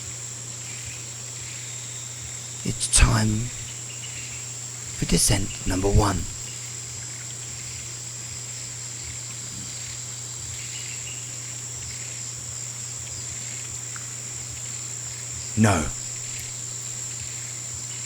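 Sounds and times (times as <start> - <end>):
crickets chirring: 0.0 - 2.8, 6.2 - 18.0.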